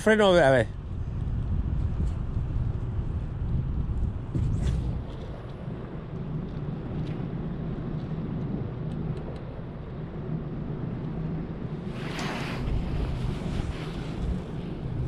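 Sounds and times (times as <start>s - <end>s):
wind on microphone: 0.2s - 15.0s.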